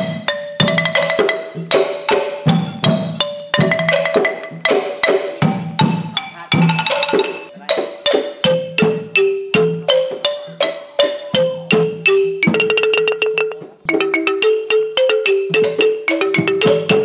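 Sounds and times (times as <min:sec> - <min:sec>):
wooden xylophone melody: 0:00.0 - 0:17.0.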